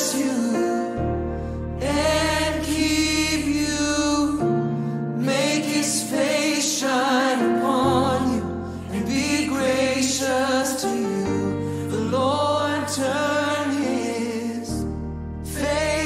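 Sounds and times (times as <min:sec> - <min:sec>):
choir singing a worship song: 0:00.0 - 0:16.0
grand piano: 0:00.0 - 0:16.0.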